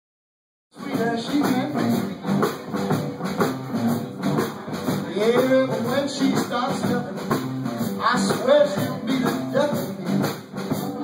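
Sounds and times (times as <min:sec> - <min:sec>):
drum kit: 0:00.8 - 0:11.0
electric bass: 0:00.8 - 0:11.0
electric guitar: 0:00.8 - 0:11.0.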